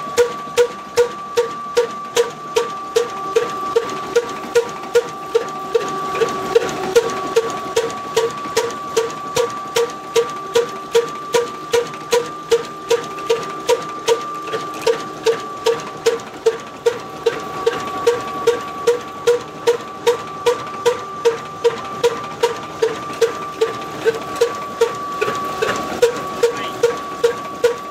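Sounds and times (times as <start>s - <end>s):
steady high whine: 0.0s - 27.9s
diesel engine running: 2.2s - 27.9s.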